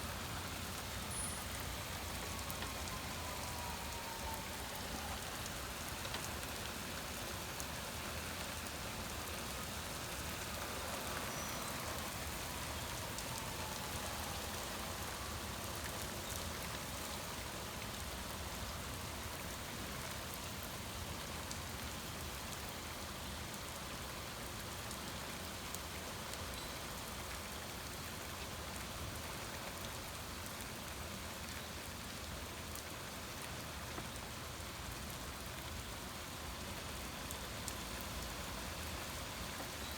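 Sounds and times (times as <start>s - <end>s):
heavy rain: 0.0s - 39.9s
raindrops ticking on surfaces: 0.0s - 39.9s.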